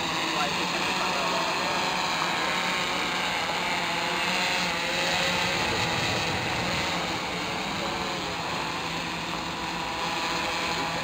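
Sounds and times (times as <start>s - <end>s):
drone propellers whirring: 0.0s - 11.0s.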